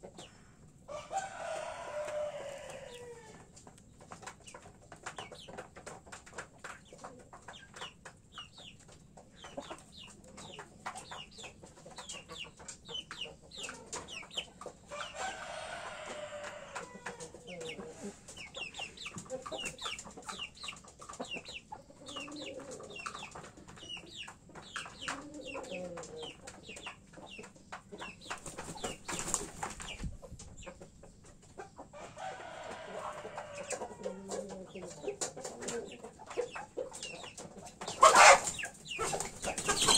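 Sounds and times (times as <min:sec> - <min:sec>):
chick peeping: 0:00.0 - 0:39.9
chickens clucking and calling: 0:00.0 - 0:39.9.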